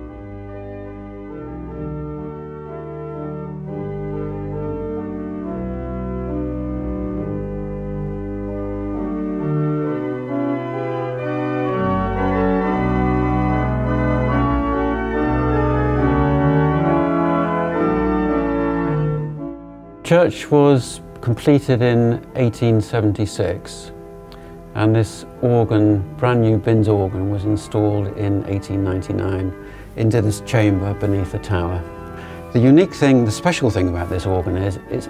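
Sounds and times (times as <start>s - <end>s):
pipe organ chords: 0.0s - 35.0s.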